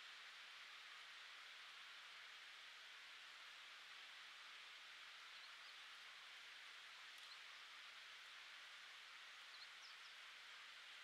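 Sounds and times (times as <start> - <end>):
faint outdoor air hiss: 0.0 - 11.0.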